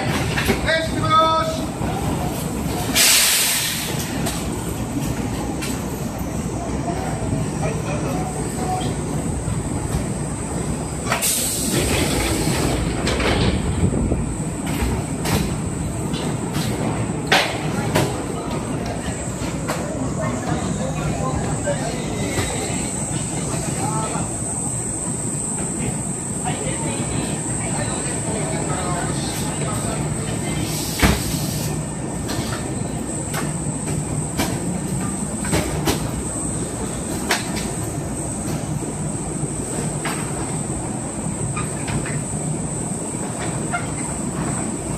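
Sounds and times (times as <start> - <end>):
train hum: 0.0 - 44.9
train door hiss: 2.2 - 6.1, 8.3 - 19.8, 22.3 - 44.9.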